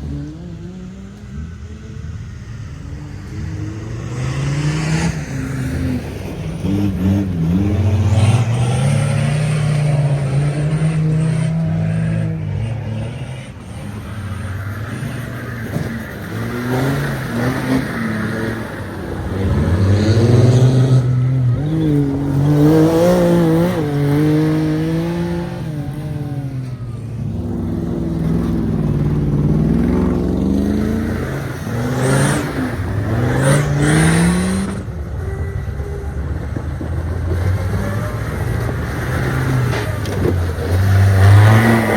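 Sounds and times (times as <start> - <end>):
off-road engines revving: 0.0 - 41.9.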